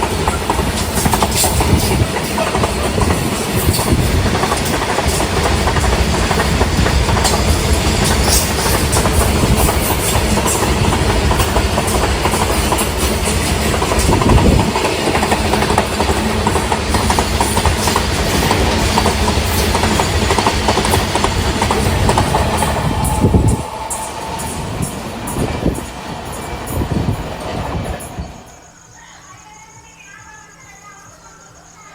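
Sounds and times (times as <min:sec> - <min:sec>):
wheels clicking over rails: 0:00.0 - 0:28.5
train coaches rumbling: 0:00.0 - 0:31.9.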